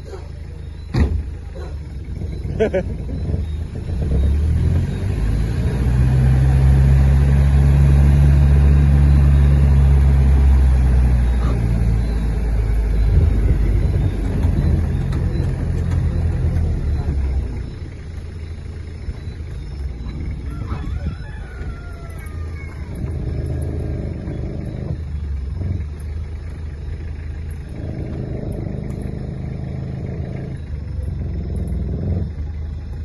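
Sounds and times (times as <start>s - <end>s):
road noise: 0.0s - 33.0s
vehicle engine running: 0.0s - 33.0s.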